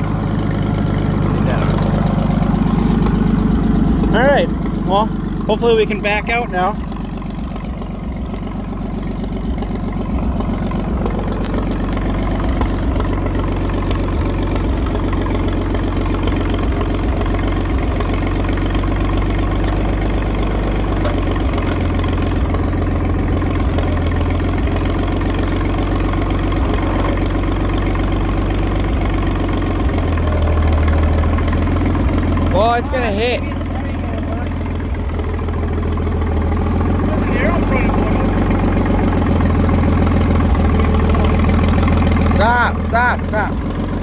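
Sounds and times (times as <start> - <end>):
unmuffled tractor engine running: 0.0 - 44.0.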